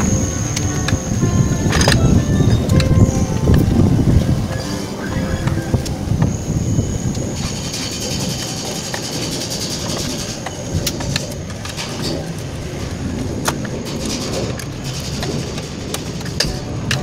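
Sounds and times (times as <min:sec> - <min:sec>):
low rumble of vehicle noise: 0:00.0 - 0:17.0.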